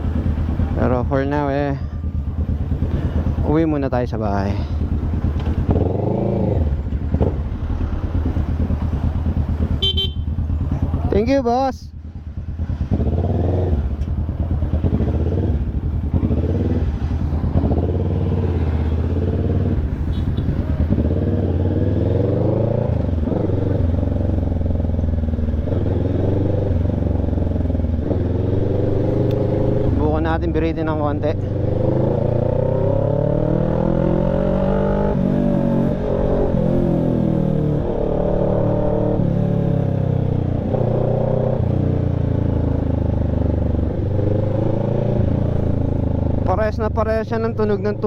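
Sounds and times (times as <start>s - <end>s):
motorcycle engine revving: 0.0s - 11.2s, 12.0s - 48.0s.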